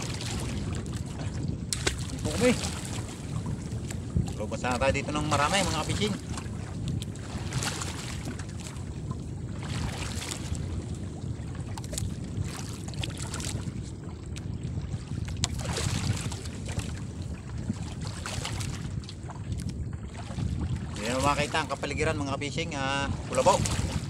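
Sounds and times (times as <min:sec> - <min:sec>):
water washing against boat hull: 0:00.0 - 0:24.0
wind buffeting microphone: 0:00.0 - 0:24.0.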